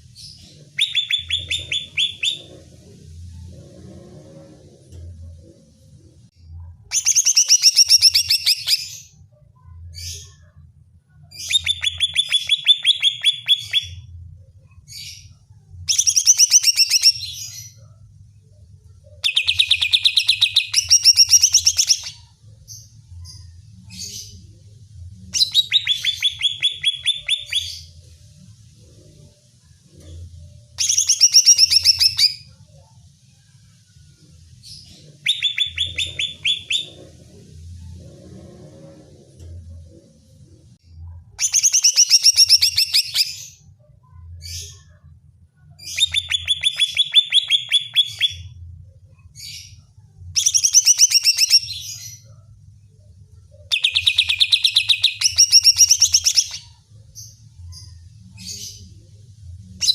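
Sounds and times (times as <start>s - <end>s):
bird singing rattling phrases: 0.0s - 4.7s, 5.6s - 18.0s, 18.8s - 24.6s, 25.2s - 32.8s, 33.5s - 59.9s.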